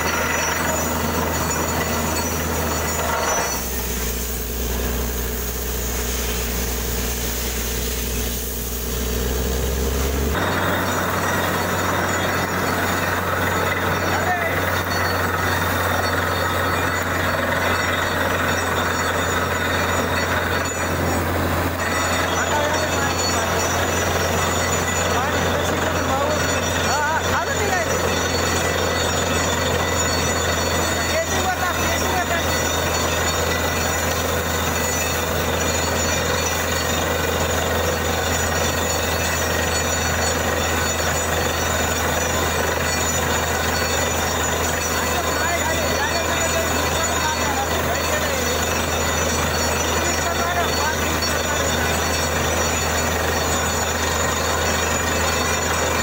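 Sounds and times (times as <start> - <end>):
drilling rig engine running: 0.0 - 56.0
thin high-pitched tones: 0.0 - 56.0.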